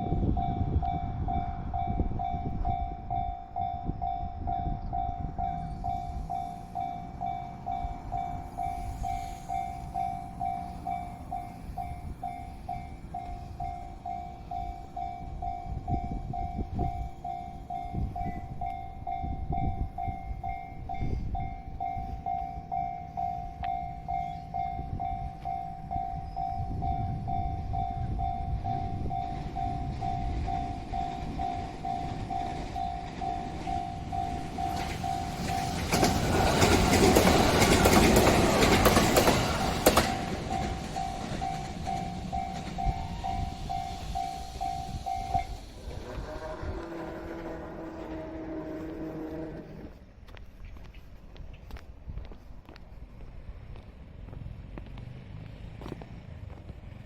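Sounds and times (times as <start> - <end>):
level-crossing warning bell: 0.0 - 50.0
low rumble of passing train: 0.0 - 57.0.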